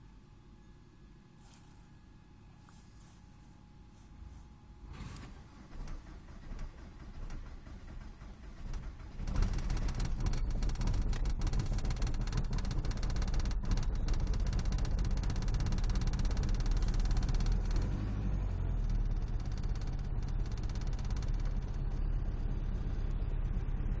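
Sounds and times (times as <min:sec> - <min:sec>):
diesel engine starting and idling: 0:03.9 - 0:24.0.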